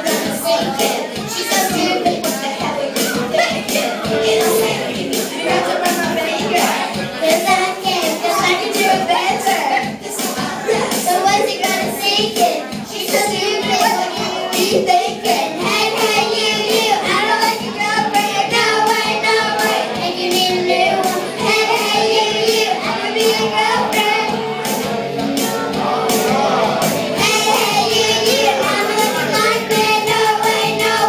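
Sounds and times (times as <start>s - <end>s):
girls singing into microphones: 0.0s - 31.0s
karaoke backing track with beat: 0.0s - 31.0s.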